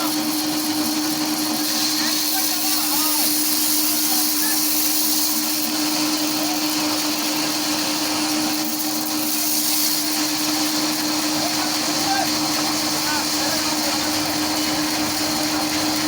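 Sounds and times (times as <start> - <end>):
machine drone with hiss: 0.0 - 16.0.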